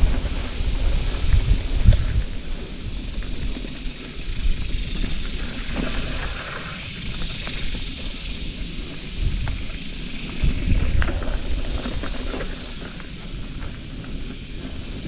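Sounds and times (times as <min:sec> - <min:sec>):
bike knocking and rattling: 0:00.0 - 0:15.0
bike tyres rumbling on dirt: 0:00.0 - 0:15.0.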